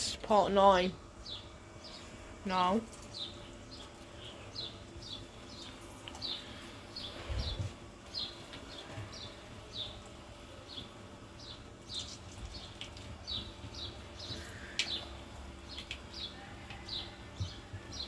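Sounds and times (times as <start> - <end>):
bird chirping: 1.2 - 10.0, 10.6 - 18.0.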